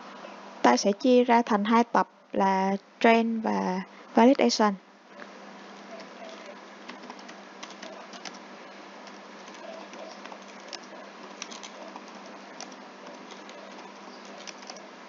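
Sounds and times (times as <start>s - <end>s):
background hiss: 0.0s - 15.0s
faint hum: 0.0s - 15.0s.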